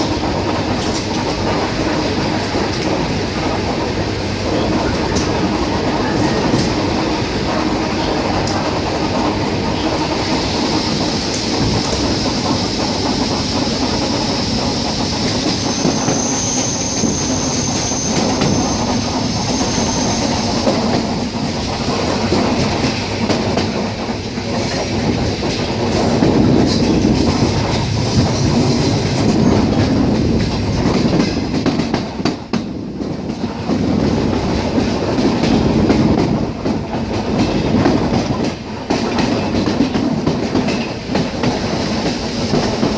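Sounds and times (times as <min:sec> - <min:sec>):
electric train wheels clattering: 0:00.0 - 0:42.9.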